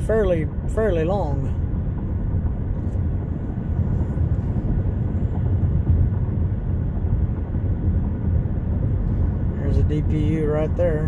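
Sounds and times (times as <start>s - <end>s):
freight train rumbling on rails: 1.3s - 11.0s.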